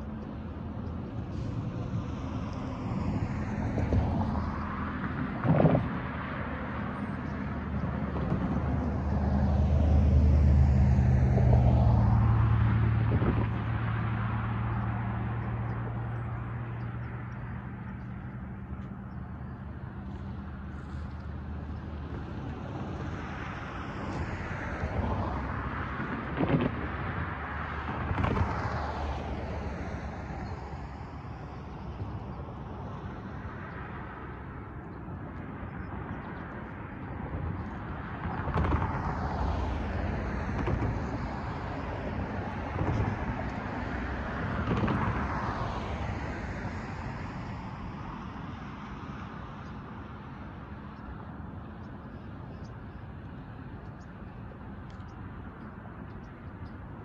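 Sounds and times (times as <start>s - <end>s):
cars passing with tyre noise: 0.0s - 57.0s
vehicle engine hum: 0.0s - 57.0s.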